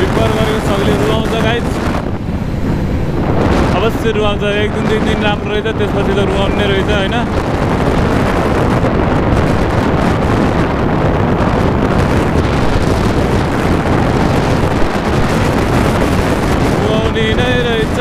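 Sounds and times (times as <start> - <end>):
motorcycle running: 0.0 - 18.0
wind rushing over microphone: 0.0 - 18.0.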